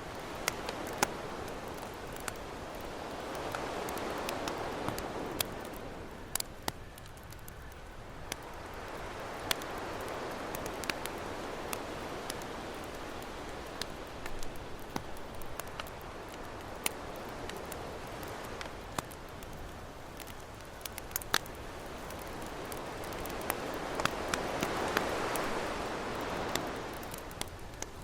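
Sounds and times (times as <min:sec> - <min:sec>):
ocean waves: 0:00.0 - 0:06.8, 0:08.0 - 0:27.9
campfire crackling and popping: 0:00.0 - 0:28.0.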